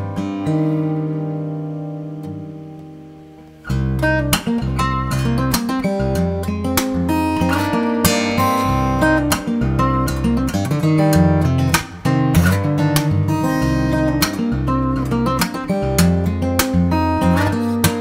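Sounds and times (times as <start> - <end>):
fingerstyle acoustic guitar: 0.0 - 18.0.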